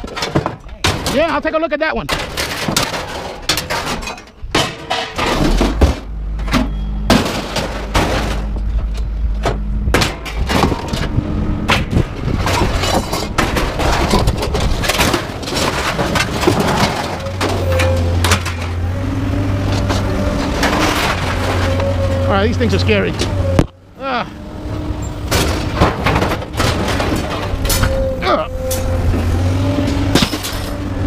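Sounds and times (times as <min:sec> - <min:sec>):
scrap metal clanging: 0:02.1 - 0:19.0, 0:19.6 - 0:23.4, 0:24.7 - 0:31.0
low rumble: 0:04.4 - 0:31.0.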